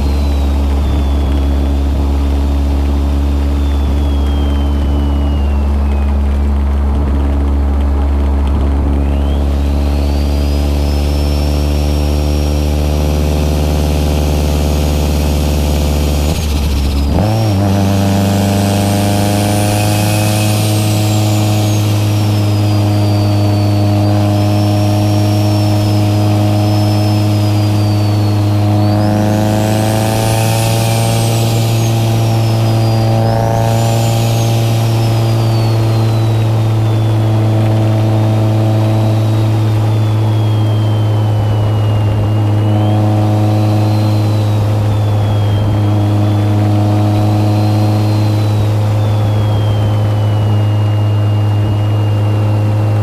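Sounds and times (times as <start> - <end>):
car engine while driving: 0.0 - 53.0
turbo whistle: 0.0 - 53.0.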